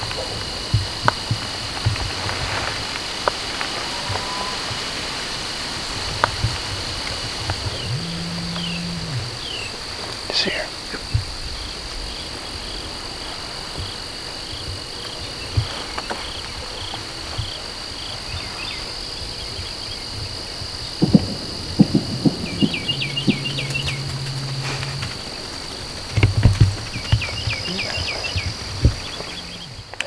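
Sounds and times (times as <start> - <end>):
crickets and insects chirring: 0.0 - 30.0.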